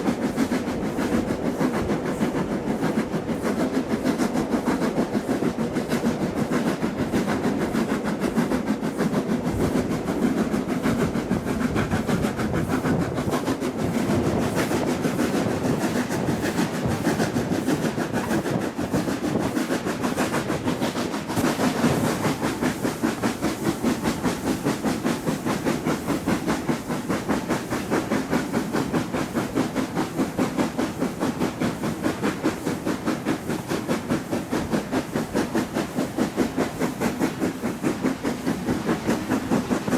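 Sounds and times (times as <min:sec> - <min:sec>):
steam hissing: 0:00.0 - 0:39.9
train wheels clickety-clack: 0:00.0 - 0:39.9.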